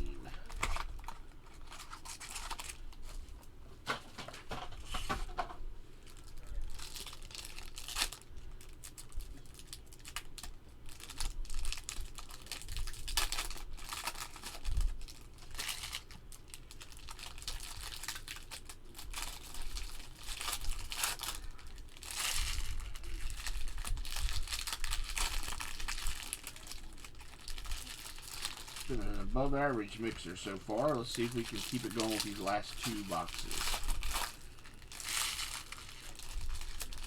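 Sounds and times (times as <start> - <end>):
packaging crinkling and tearing: 0.0 - 37.0.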